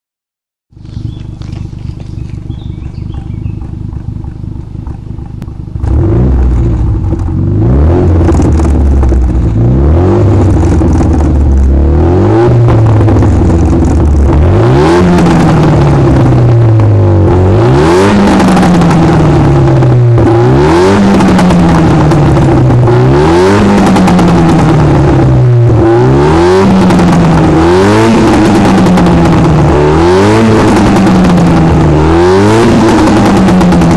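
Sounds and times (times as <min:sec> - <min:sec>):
car engine idling and revving: 0:00.7 - 0:33.9.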